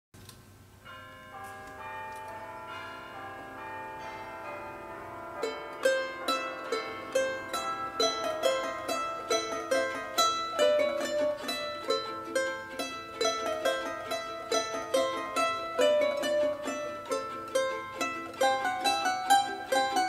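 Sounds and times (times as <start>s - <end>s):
plucked string music: 0.2s - 20.0s.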